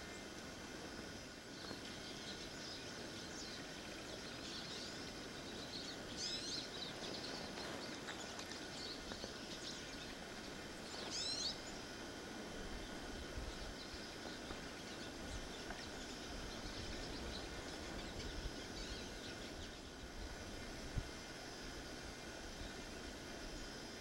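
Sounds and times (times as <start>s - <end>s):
birds chirping: 0.0s - 23.8s
steady background hiss: 0.0s - 24.0s.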